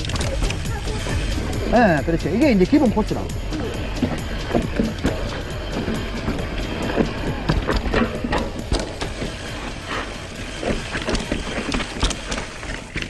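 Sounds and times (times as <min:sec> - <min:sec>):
mountain bike rattling on dirt trail: 0:00.0 - 0:13.0.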